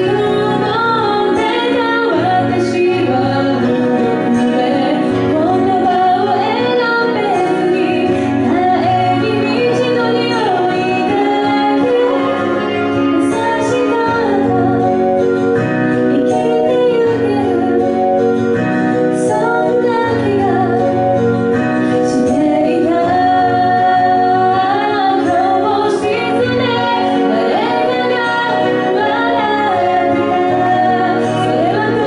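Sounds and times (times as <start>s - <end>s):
woman singing into a microphone: 0.0s - 32.0s.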